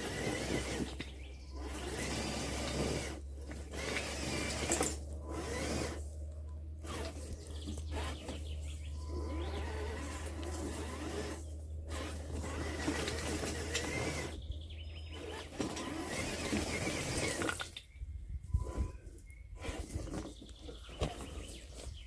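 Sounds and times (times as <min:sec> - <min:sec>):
electric motor whining: 0:00.0 - 0:17.8, 0:18.4 - 0:22.0.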